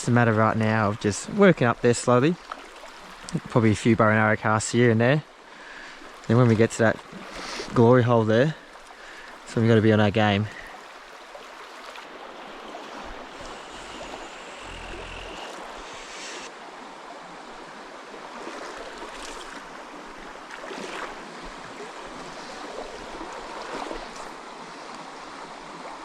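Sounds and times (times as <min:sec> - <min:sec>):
stream rushing over its bed: 0:00.0 - 0:26.0.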